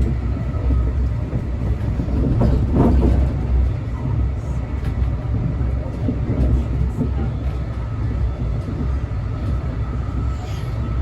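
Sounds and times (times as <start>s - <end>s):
train rumbling from inside: 0.0s - 11.0s.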